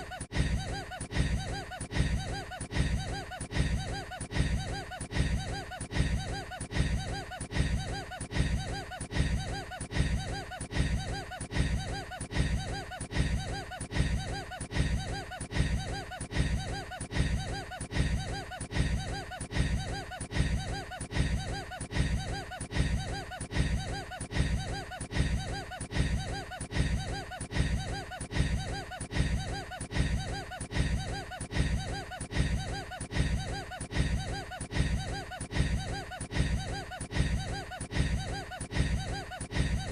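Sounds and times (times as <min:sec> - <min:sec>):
looped man's laugh: 0:00.0 - 0:39.9.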